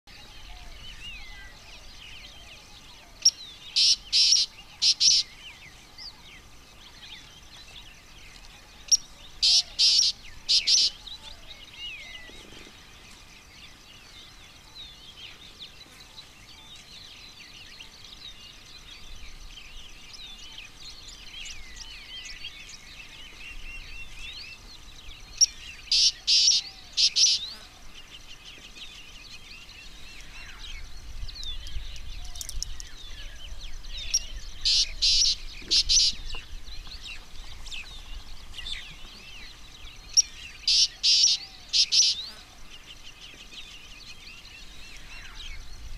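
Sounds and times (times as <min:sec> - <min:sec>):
wild birds chirping: 0:00.0 - 0:45.9.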